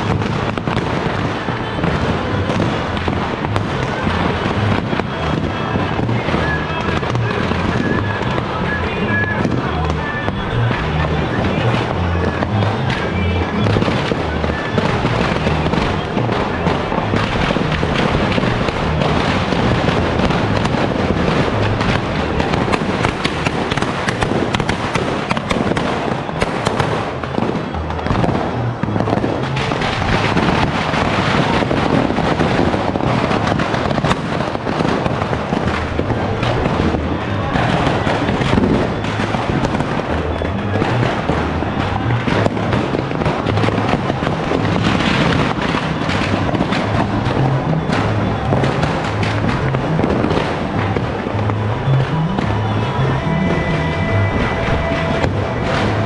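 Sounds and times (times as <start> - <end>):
fireworks popping and crackling: 0.0 - 56.0
music playing: 0.0 - 56.0.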